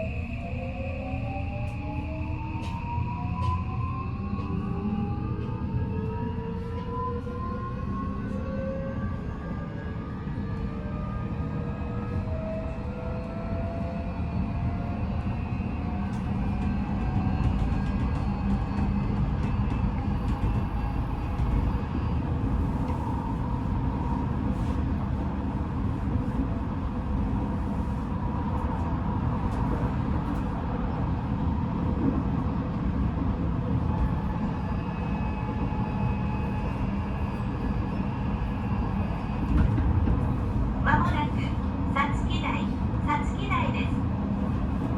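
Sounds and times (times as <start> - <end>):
train wheels rumbling on rail: 1.6 - 44.9.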